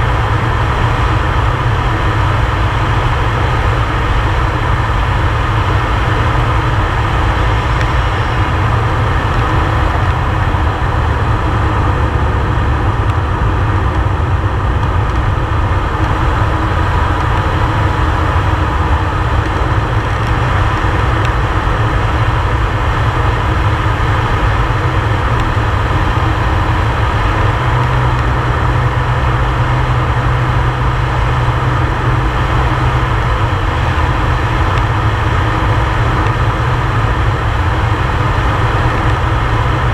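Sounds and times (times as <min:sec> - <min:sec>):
turboprop engine drone: 0:00.0 - 0:39.9.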